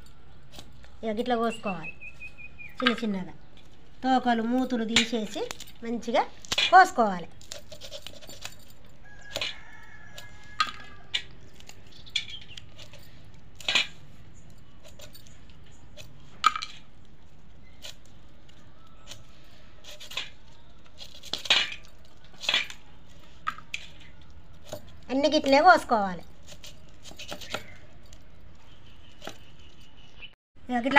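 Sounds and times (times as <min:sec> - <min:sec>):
light metallic clinks: 0:02.7 - 0:30.1
blade snipping dried fish: 0:04.4 - 0:29.7.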